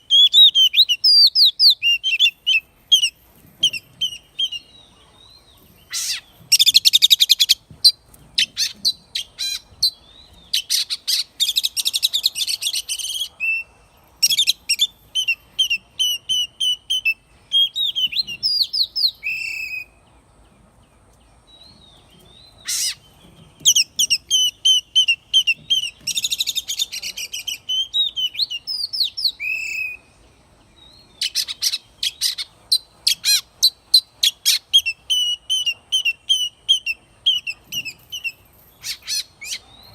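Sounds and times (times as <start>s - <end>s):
bird singing trills and whistles: 0.0s - 20.1s, 21.6s - 39.9s.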